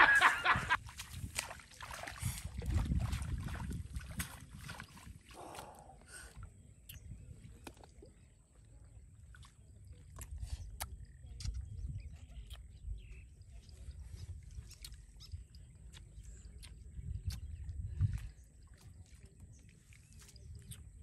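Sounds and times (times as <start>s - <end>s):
wind rumble on microphone: 0.0s - 8.3s, 9.7s - 21.0s.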